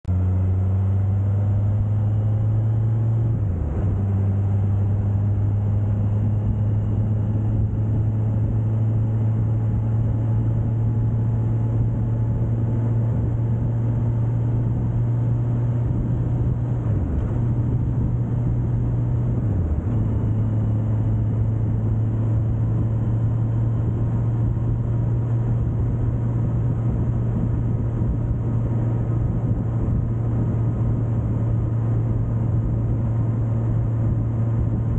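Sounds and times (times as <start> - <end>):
wind and road rush: 0.0 - 34.9
motorcycle engine droning: 0.1 - 34.9.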